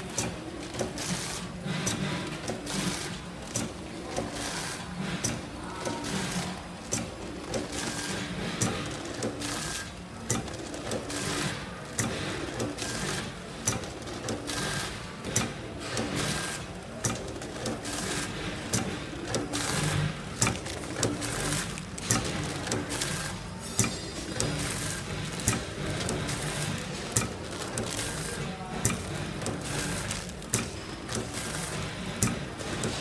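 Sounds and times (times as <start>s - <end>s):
sharp mechanical clicks and clatter: 0.0s - 33.0s.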